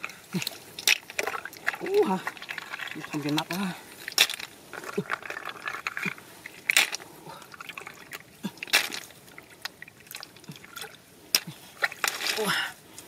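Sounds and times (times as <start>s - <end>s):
water dripping: 0.0s - 12.6s.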